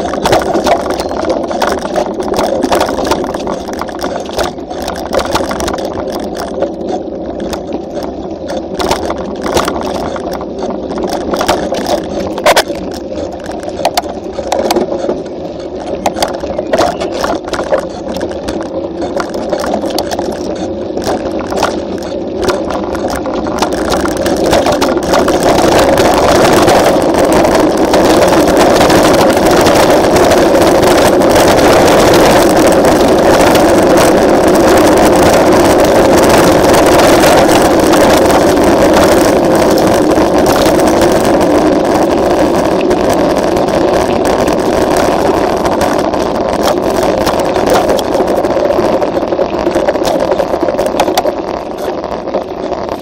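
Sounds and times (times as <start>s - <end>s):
bike tyres rolling on dirt: 0.0s - 53.0s
wind on microphone: 0.0s - 53.0s.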